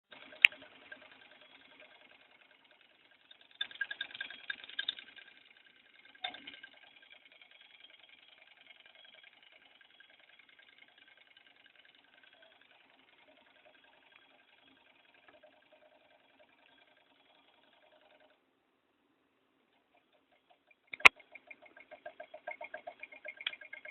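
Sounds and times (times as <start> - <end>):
model engine whirring: 0.0 - 18.4, 19.6 - 23.9.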